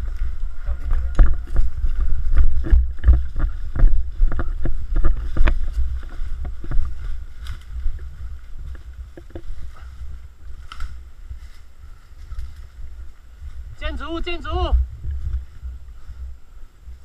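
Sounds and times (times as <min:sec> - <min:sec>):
footsteps on dry leaves: 0:00.0 - 0:17.0
low camera rumble: 0:00.0 - 0:17.0.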